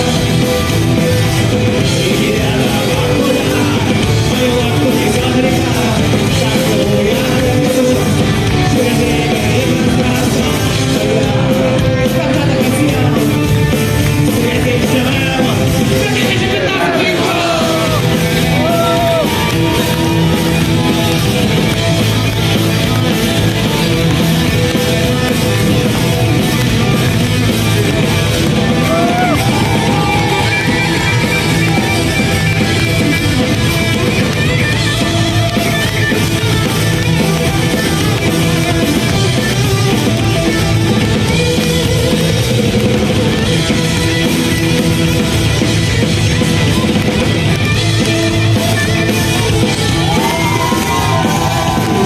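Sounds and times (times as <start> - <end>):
rock band playing: 0.0 - 52.0.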